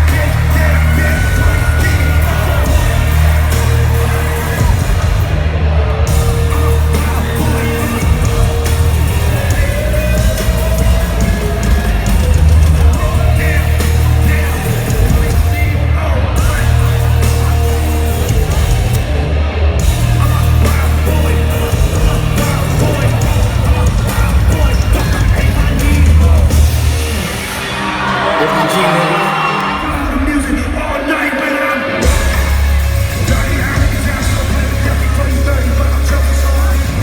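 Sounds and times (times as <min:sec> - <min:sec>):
live concert music: 0:00.0 - 0:37.0.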